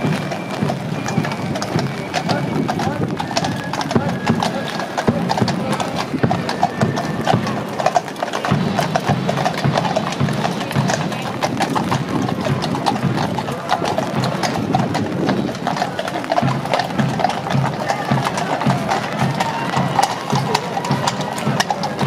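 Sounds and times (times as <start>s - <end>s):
horse hooves clip-clopping on road: 0.0s - 22.0s.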